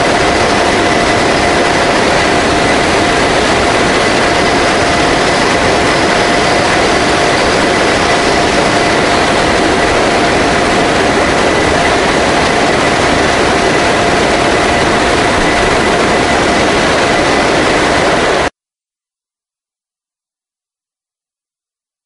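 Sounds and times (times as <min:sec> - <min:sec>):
rushing slipstream: 0:00.0 - 0:18.5
steady whining tones: 0:00.0 - 0:18.5
turboprop engines roaring: 0:00.0 - 0:18.5.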